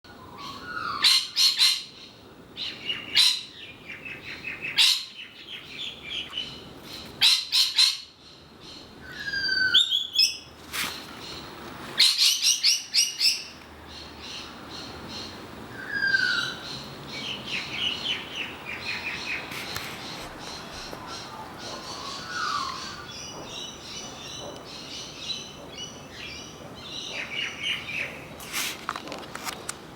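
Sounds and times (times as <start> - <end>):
harsh bird calls: 0.1 - 28.3.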